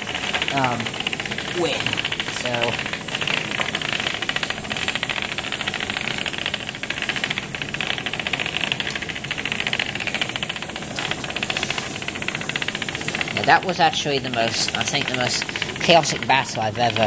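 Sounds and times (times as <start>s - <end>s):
vibrating robots rattling on table: 0.0s - 17.0s.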